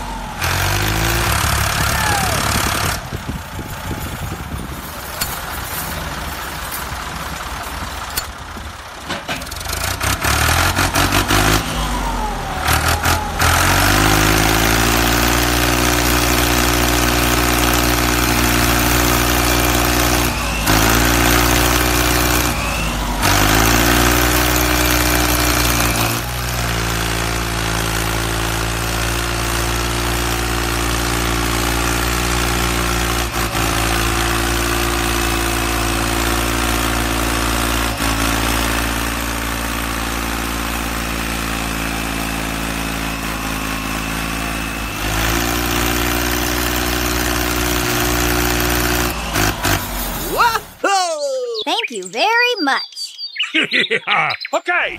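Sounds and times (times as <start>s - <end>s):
engine cranking and running: 0.0s - 50.8s.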